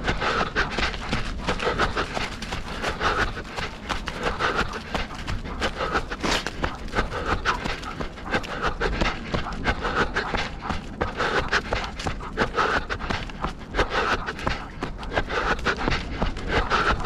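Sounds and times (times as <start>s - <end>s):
heavy panting breaths: 0.0s - 17.0s
running footsteps: 0.0s - 17.0s.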